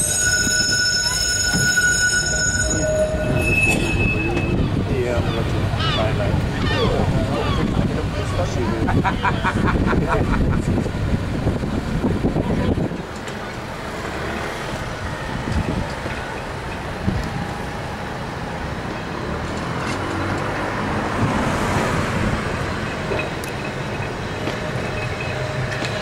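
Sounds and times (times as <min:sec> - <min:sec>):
tram rolling on rails: 0:00.0 - 0:26.0
tram running noise on board: 0:00.0 - 0:26.0.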